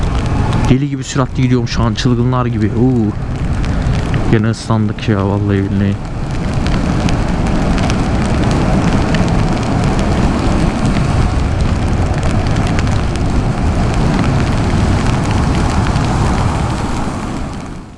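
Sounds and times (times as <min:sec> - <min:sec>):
wet road noise: 0:00.0 - 0:17.9
wind rush on microphone: 0:00.0 - 0:17.9.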